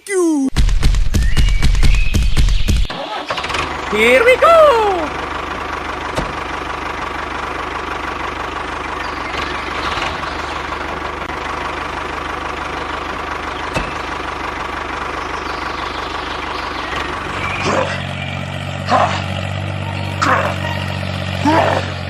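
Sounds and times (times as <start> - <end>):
small engine idling: 0.8 - 22.0.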